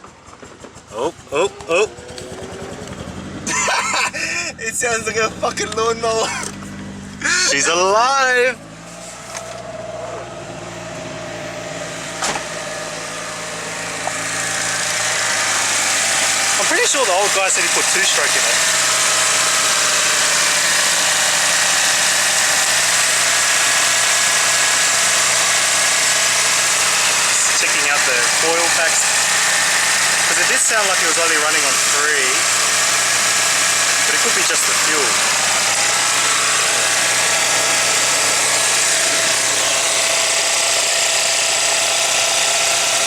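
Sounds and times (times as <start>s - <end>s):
car engine idling roughly: 0.0s - 43.0s.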